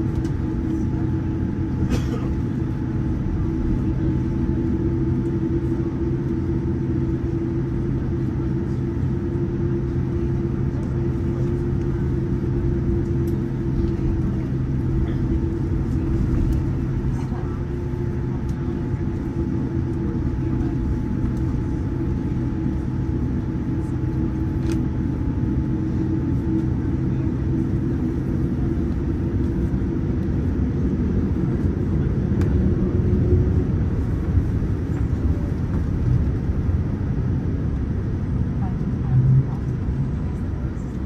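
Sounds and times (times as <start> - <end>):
aircraft engines humming: 0.0 - 41.0.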